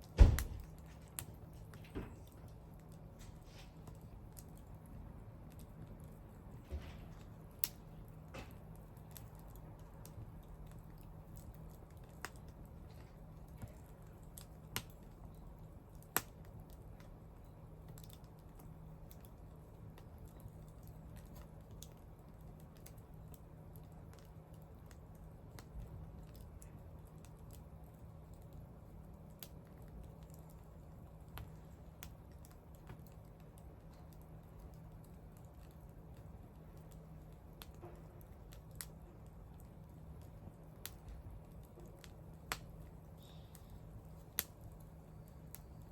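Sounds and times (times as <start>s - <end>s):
wood bonfire crackling: 0.0s - 45.9s.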